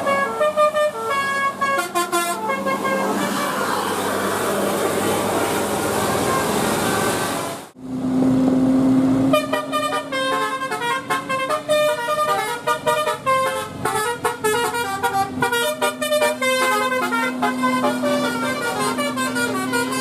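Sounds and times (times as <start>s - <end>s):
multi-tone bus horn melody: 0.0s - 7.7s, 9.2s - 20.0s
passing traffic: 0.0s - 20.0s.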